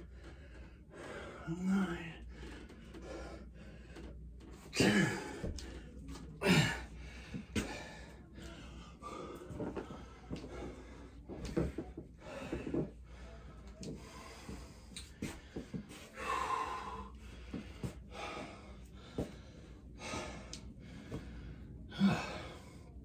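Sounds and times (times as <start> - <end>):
man breathing hard: 0.0 - 23.0.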